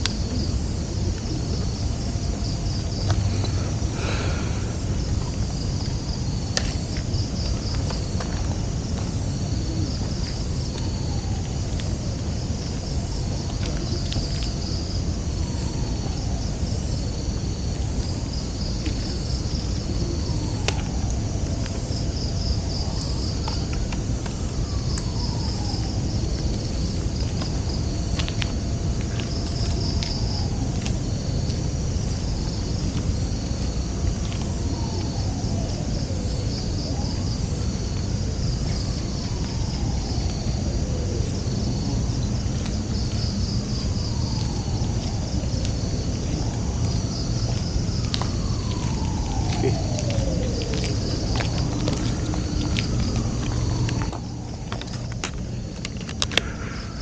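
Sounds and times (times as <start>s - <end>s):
night insects chirping: 0.0s - 57.0s
steady low rumble: 0.0s - 57.0s.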